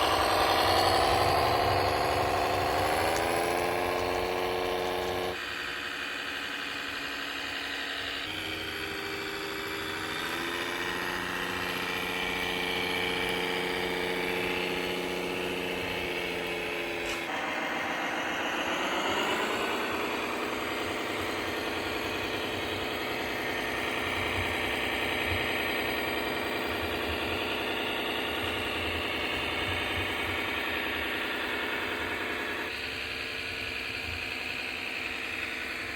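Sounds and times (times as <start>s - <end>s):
model vehicle engine sound revving: 0.0s - 35.9s.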